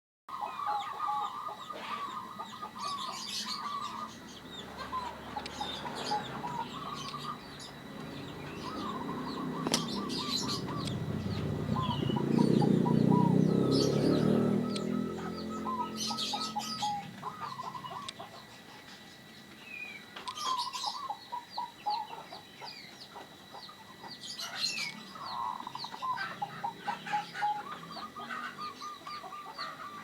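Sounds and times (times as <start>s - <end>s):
dove cooing: 0.3s - 30.0s
small birds chirping: 0.3s - 30.0s.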